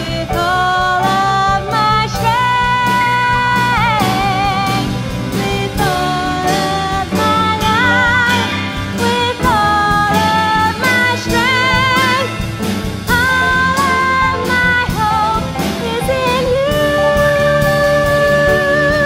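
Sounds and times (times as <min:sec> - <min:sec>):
live band: 0:00.0 - 0:19.0.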